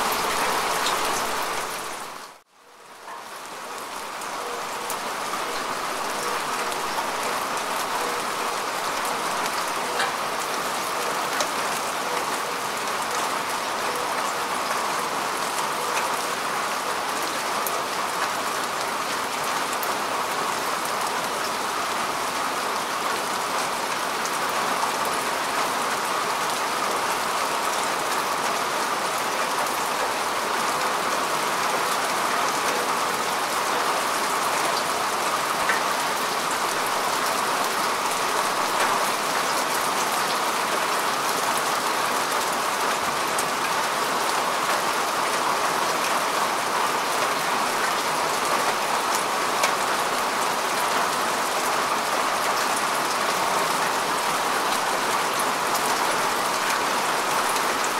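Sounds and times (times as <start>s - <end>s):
rain falling on grass: 0.0s - 57.9s.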